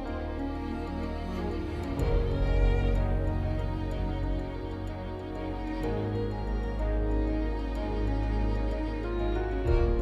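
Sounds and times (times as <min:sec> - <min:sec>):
soft cinematic music: 0:00.0 - 0:10.0.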